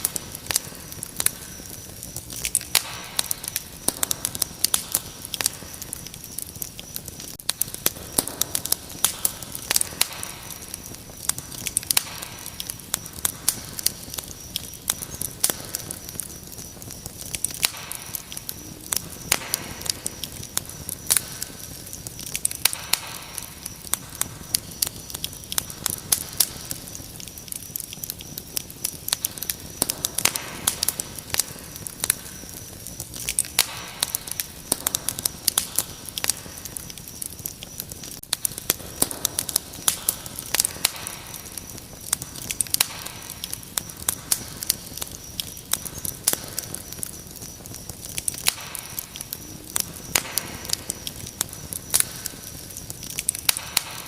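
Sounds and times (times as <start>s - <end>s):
crickets trilling: 0.0s - 54.0s
wood fire crackling and popping: 0.0s - 54.0s.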